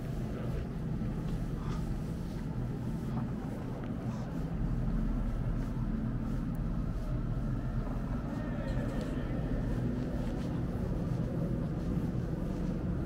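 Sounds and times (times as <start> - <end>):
low rumbling ambience: 0.0 - 13.0.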